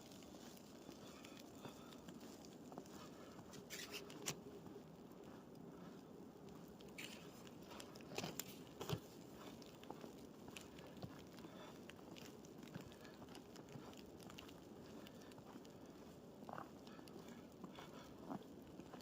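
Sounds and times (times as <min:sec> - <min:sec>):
footsteps crunching in snow: 0:00.0 - 0:15.9.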